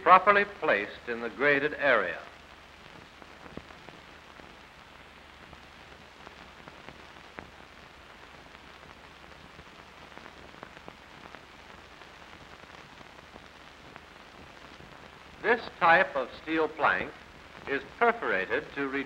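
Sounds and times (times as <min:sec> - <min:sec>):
film soundtrack surface noise: 0:00.0 - 0:19.0.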